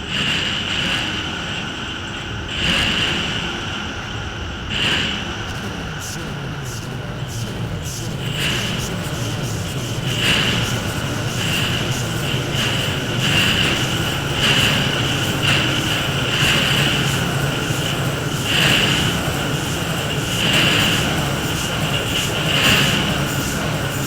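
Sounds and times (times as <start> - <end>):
low industrial hum: 0.0 - 24.0
hissing noise: 4.7 - 24.0.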